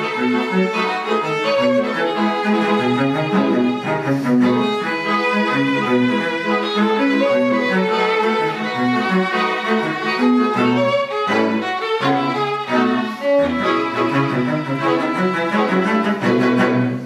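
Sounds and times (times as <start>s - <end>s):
low cello line: 0.0s - 17.0s
string quartet playing short bowed notes: 0.0s - 17.0s.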